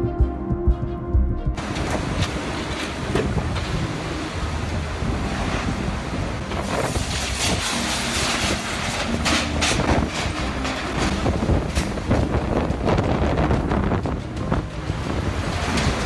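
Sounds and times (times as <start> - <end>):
wind buffeting microphone: 1.6 - 16.0.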